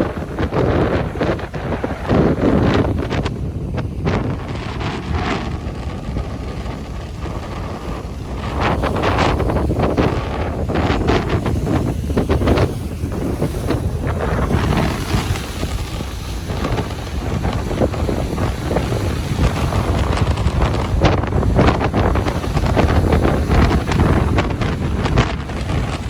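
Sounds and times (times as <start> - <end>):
ocean waves washing on beach: 0.0 - 26.0
wind buffeting microphone: 0.0 - 26.0.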